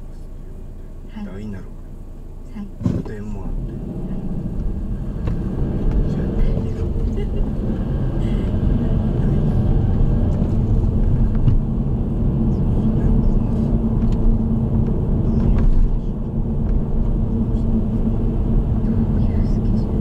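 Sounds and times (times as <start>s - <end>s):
car driving heard from inside: 0.0s - 20.0s.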